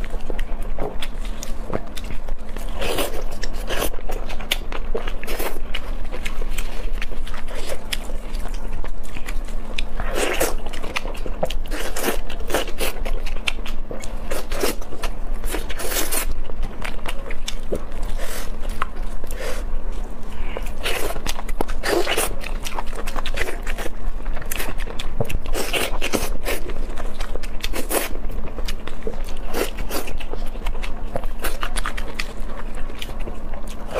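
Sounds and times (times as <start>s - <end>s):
biting and chewing: 0.0s - 33.9s.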